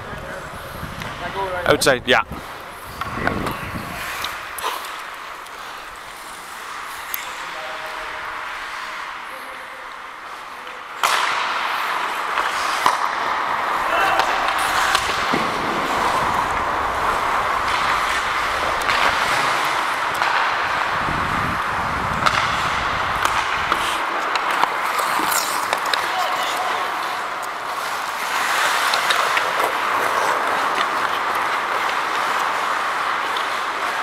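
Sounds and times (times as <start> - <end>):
players' voices: 0.0 - 34.0
sticks and puck clacking: 0.1 - 1.6, 2.4 - 34.0
skate blades scraping ice: 2.4 - 34.0.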